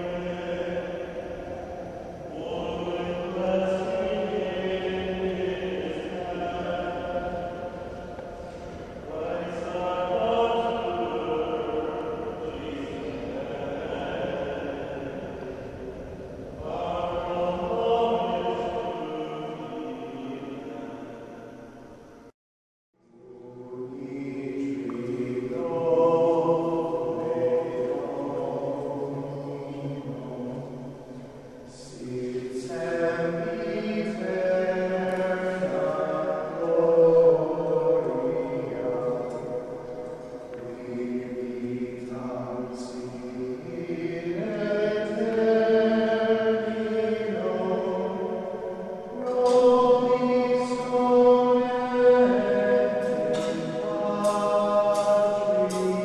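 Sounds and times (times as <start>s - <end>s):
voices chanting in unison: 0.0s - 21.6s, 23.1s - 56.0s.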